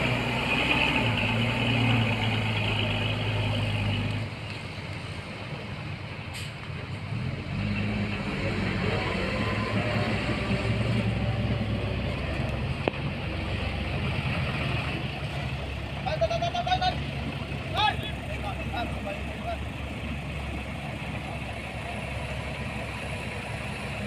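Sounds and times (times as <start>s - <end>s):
heavy diesel engine under load: 0.0s - 24.0s.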